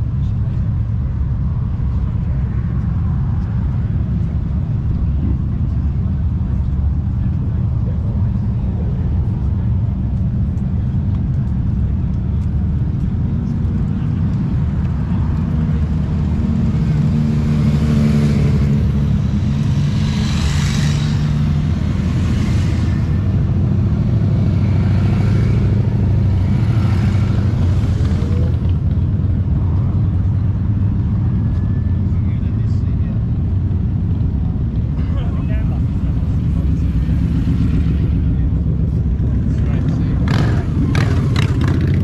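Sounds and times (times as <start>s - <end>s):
motorcycle engine rumbling: 0.0s - 42.0s
passing traffic: 0.0s - 42.0s.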